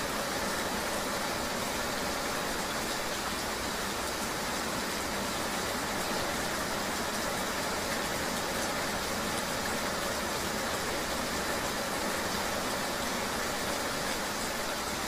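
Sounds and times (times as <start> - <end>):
rain: 0.0 - 15.0.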